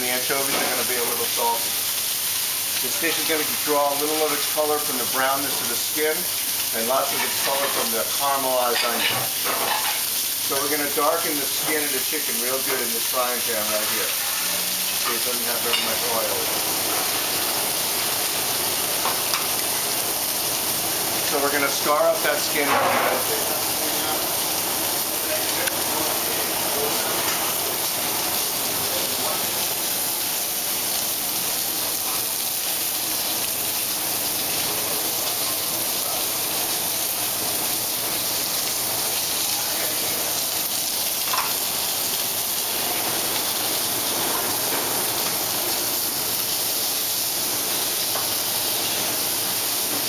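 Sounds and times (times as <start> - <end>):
chicken sizzling in a frying pan: 0.0 - 50.0.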